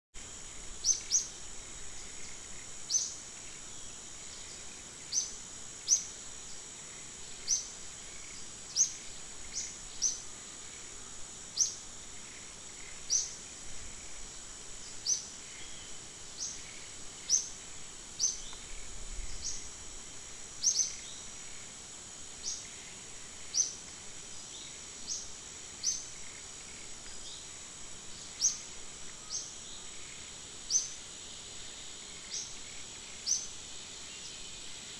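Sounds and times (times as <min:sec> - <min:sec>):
insect drone: 0:00.2 - 0:34.9.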